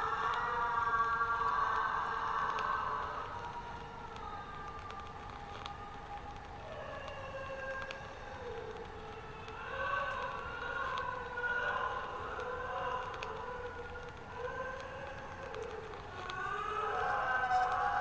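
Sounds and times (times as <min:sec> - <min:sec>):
children screaming: 0:00.0 - 0:18.0.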